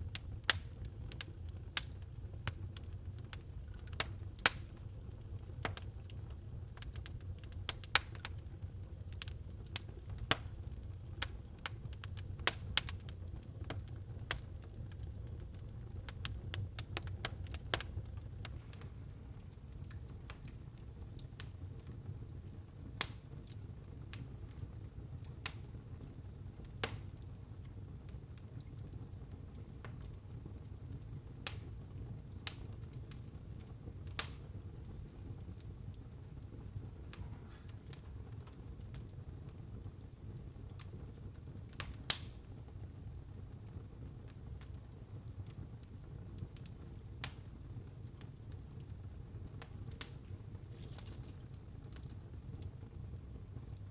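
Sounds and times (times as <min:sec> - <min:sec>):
low rumble of flames: 0:00.0 - 0:53.9
wood fire crackling and popping: 0:00.0 - 0:53.9.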